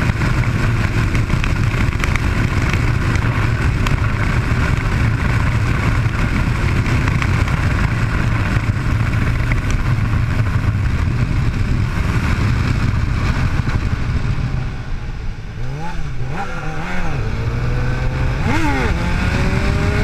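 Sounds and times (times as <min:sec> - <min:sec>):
motorcycle engine running: 0:00.0 - 0:20.0
wind rushing over camera: 0:00.0 - 0:20.0.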